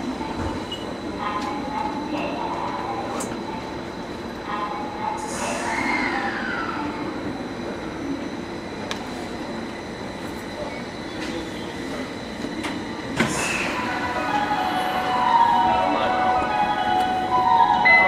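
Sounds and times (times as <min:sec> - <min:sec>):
train equipment humming: 0:00.0 - 0:18.0.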